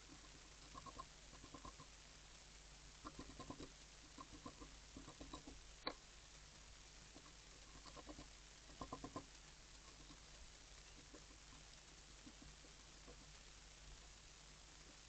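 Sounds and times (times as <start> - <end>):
birds pecking seed: 0.0 - 15.0.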